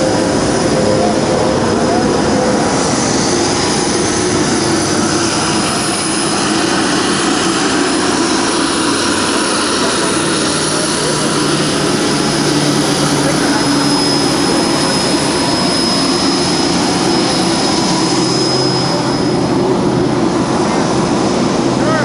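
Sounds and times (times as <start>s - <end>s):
aircraft engines running: 0.0s - 22.0s
faint high whine: 0.0s - 22.0s.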